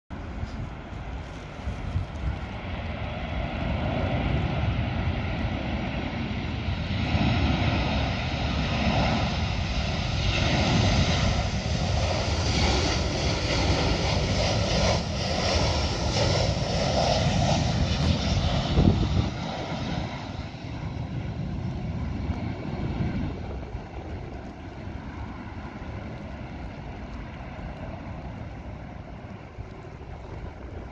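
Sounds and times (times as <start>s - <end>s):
jet engines rushing and whining: 0.1s - 30.9s.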